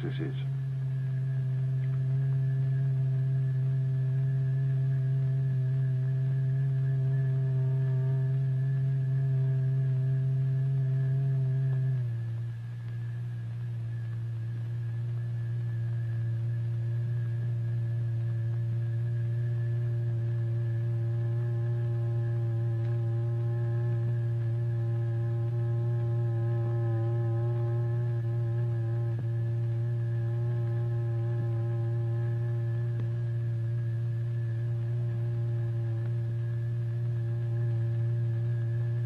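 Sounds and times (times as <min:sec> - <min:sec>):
low electronic tone: 0:00.0 - 0:39.0.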